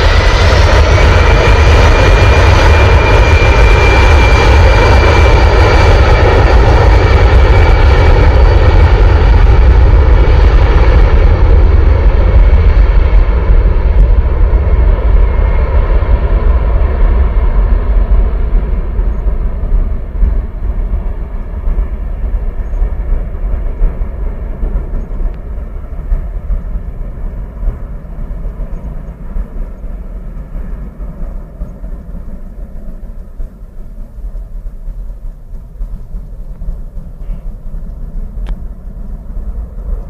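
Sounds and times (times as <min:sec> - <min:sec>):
faint engine whine: 0:00.0 - 0:40.0
jet engines rumbling: 0:00.0 - 0:40.0.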